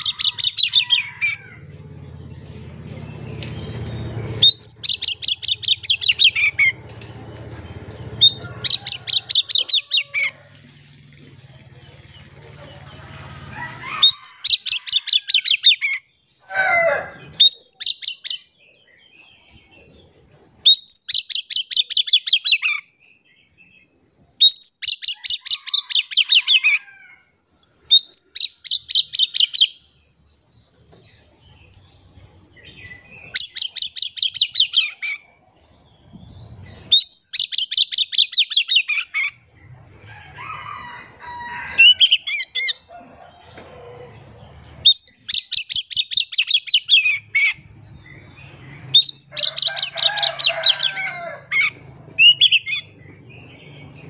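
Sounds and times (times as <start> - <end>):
bird singing sharp stuttering notes: 0.0 - 16.0, 16.8 - 22.8, 27.8 - 40.1, 41.8 - 42.9, 44.4 - 54.0.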